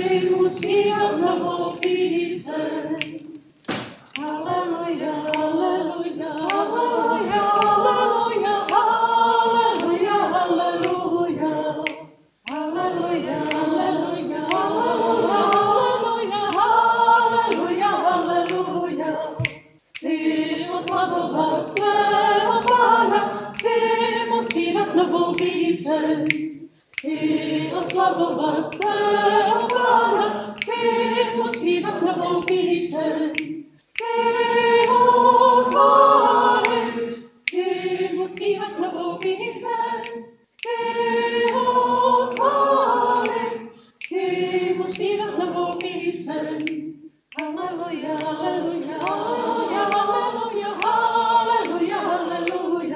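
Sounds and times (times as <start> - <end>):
group singing a cappella: 0.0 - 52.9.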